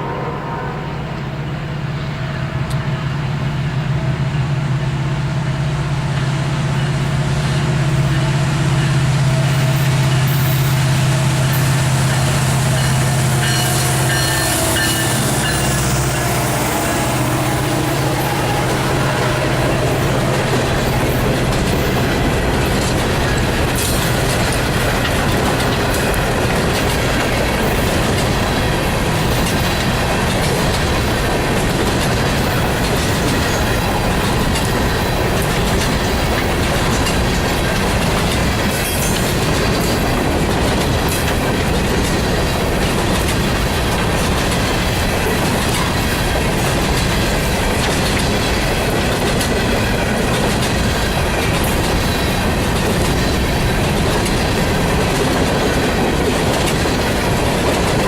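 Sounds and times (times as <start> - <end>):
freight train rumble: 0.0 - 58.0
train wheels clicking over rails: 2.6 - 58.0.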